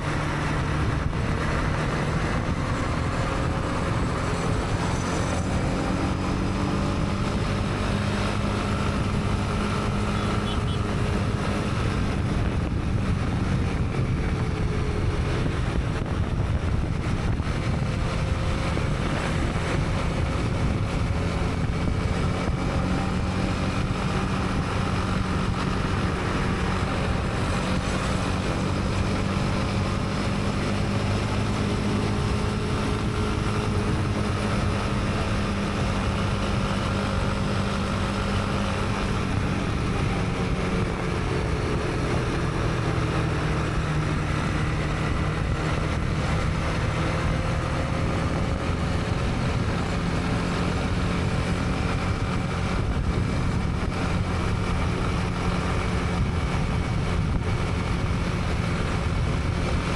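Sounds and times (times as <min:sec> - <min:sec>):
motorcycle engine cruising: 0:00.0 - 0:59.9
wind noise on microphone: 0:00.0 - 0:59.9.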